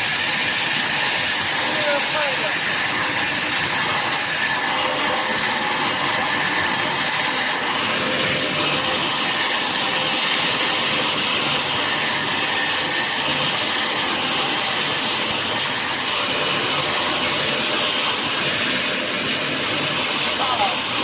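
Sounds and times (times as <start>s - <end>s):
arc welding hiss: 0.0s - 21.0s.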